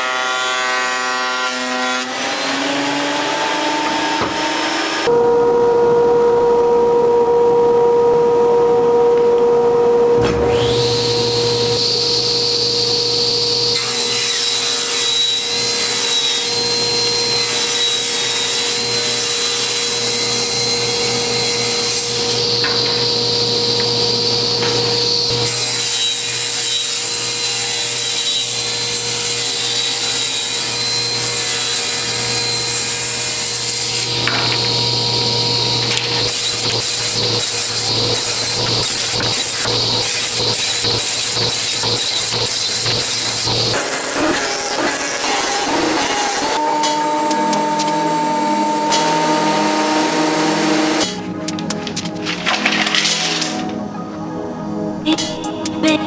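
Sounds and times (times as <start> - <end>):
table saw cutting wood: 0.0 - 53.9.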